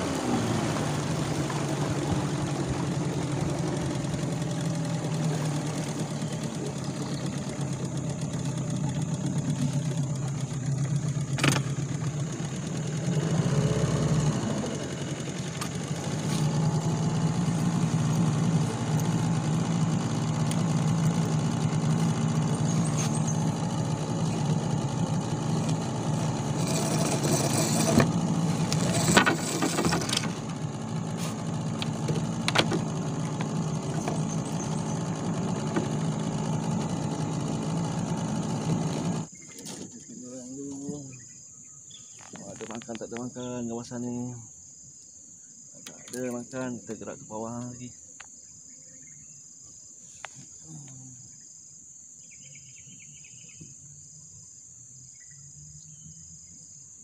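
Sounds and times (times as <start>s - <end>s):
outboard motor running: 0.0s - 44.3s, 45.8s - 49.4s.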